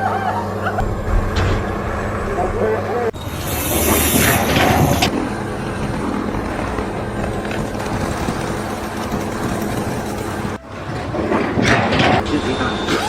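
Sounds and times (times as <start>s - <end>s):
vehicle engine running: 0.6s - 12.9s.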